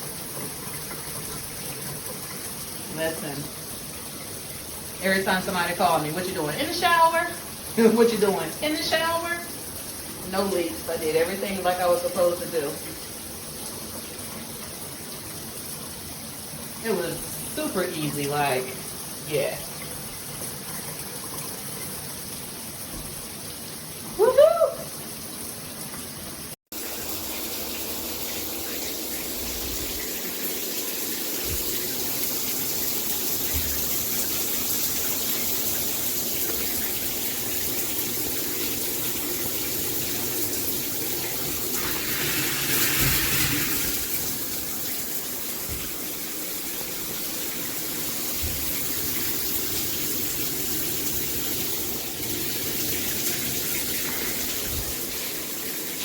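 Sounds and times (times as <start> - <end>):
shower water spraying: 0.0 - 56.0.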